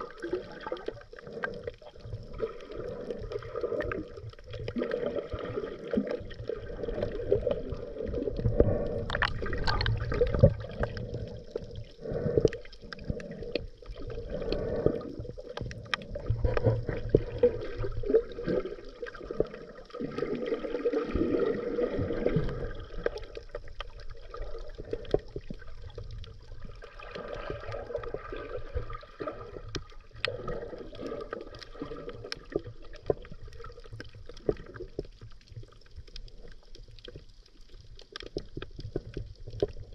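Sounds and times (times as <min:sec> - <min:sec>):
underwater regulator bubbles gurgling: 0:00.0 - 0:39.9.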